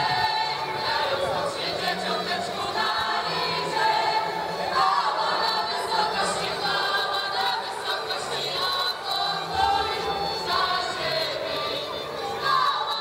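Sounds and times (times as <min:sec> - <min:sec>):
choir singing: 0:00.0 - 0:13.0
fiddle playing: 0:00.0 - 0:13.0.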